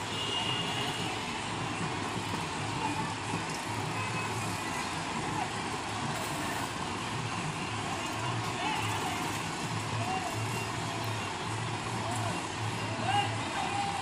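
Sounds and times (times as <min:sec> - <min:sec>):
tractor engines humming: 0:00.0 - 0:14.0.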